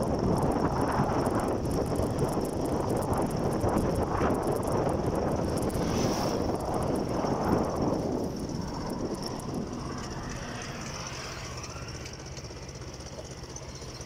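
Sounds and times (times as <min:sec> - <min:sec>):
wind rushing over microphone: 0:00.0 - 0:12.6
motorcycle engine: 0:00.0 - 0:14.0
road noise: 0:00.0 - 0:14.0.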